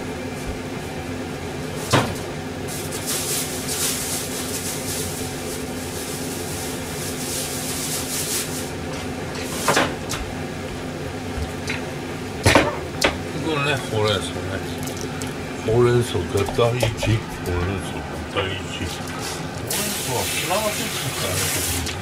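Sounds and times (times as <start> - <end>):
kitchen hum: 0.0 - 22.0.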